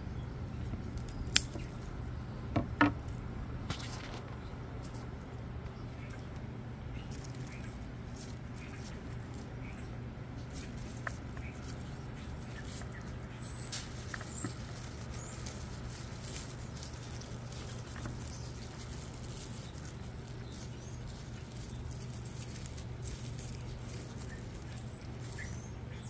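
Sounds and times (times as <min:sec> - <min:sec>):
steady low hum: 0:00.0 - 0:26.0
dry stems rustling and crackling: 0:00.4 - 0:26.0.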